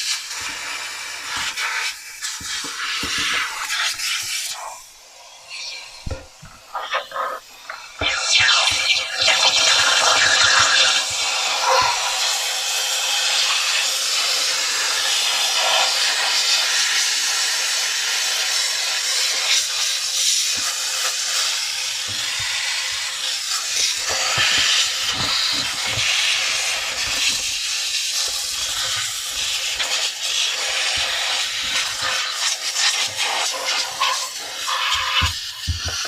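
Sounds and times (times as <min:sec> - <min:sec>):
steam cleaner hissing: 0:00.0 - 0:36.0.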